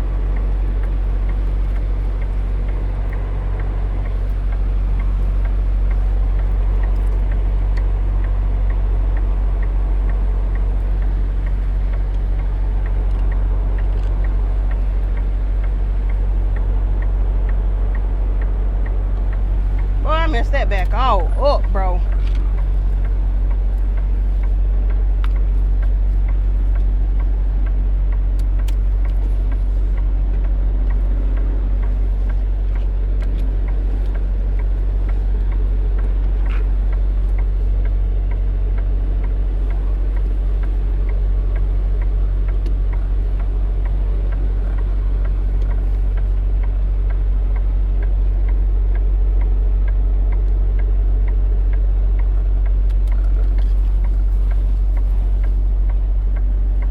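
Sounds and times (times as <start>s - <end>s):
diesel truck engine droning: 0.0s - 56.9s.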